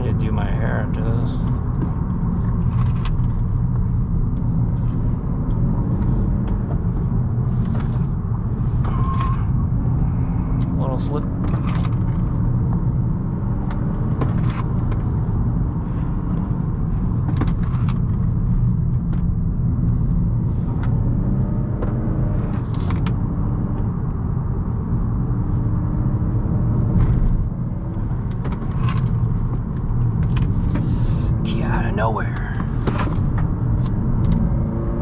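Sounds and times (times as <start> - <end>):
tyre and road rumble: 0.0 - 35.0.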